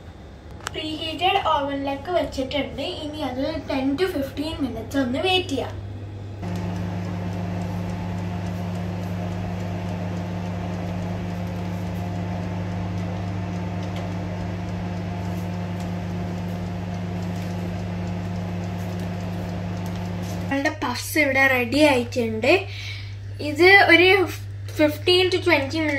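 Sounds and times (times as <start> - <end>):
electric oven humming: 0.0 - 25.9.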